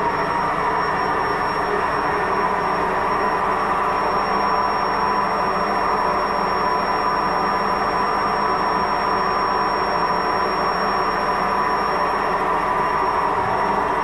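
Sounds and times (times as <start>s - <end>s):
constant bearing whine: 0.0s - 14.0s.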